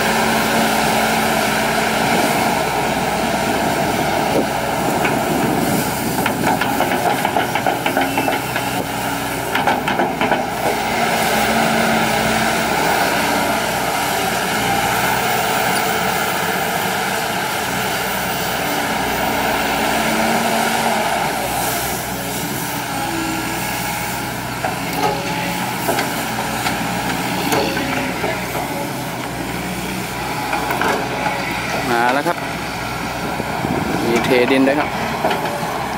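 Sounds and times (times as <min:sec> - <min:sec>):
excavator engine and hydraulics: 0:00.0 - 0:35.9.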